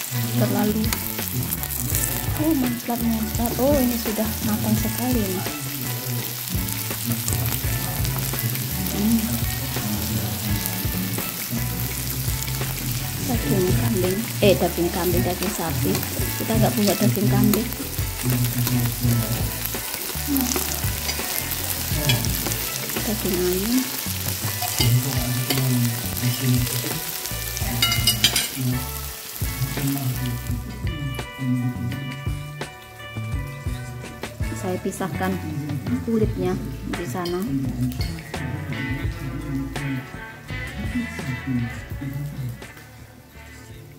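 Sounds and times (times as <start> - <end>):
background music: 0.0 - 43.9
food sizzling on grill: 0.0 - 43.9.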